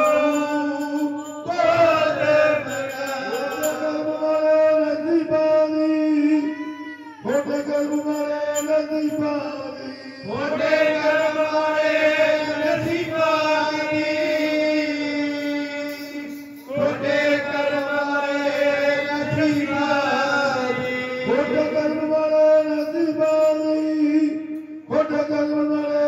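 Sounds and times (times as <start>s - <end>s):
men chanting devotional song: 0.0s - 26.0s.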